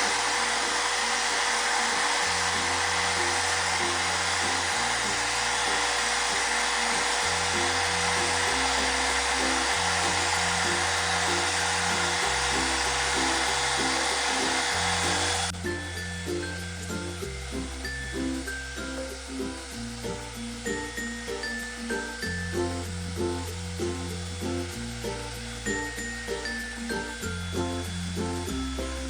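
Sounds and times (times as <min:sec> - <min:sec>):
paint spray gun hissing: 0:00.0 - 0:29.0.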